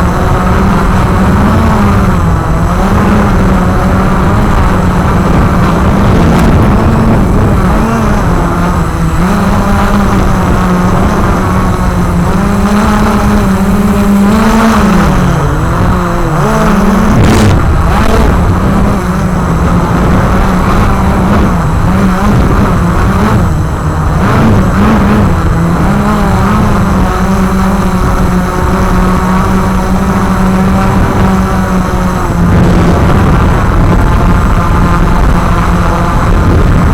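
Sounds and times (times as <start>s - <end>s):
quadcopter motors whining: 0.0s - 36.9s.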